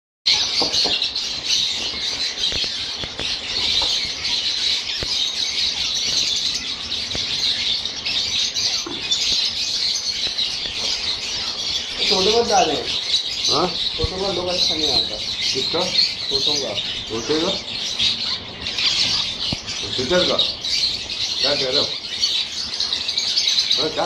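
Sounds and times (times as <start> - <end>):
parrots chattering and squawking: 0.3 - 24.0.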